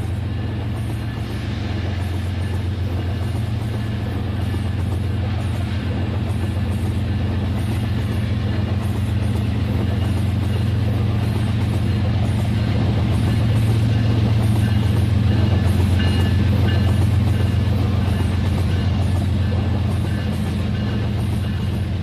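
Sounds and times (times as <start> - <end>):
model train rattling on track: 0.0 - 22.0.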